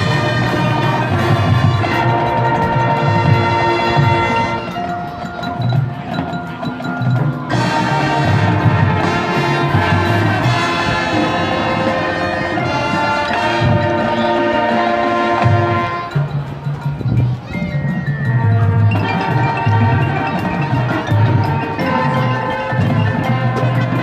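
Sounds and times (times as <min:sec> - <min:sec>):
marching band playing chords: 0:00.0 - 0:24.0
percussion beat: 0:00.0 - 0:24.0.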